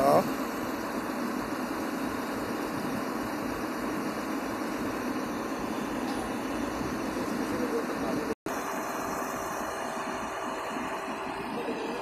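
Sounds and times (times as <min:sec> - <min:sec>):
heavy machine engines running: 0:00.0 - 0:12.0.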